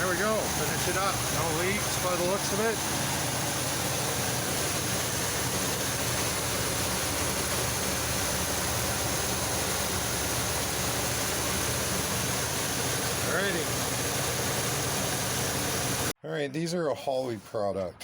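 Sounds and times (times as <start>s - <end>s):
pickup engine idling: 0.0s - 16.1s.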